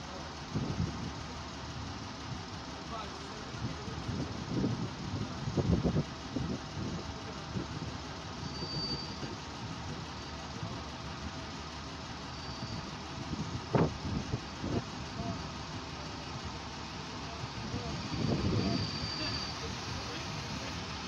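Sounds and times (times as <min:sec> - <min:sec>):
diesel railcar idling: 0:00.0 - 0:21.0.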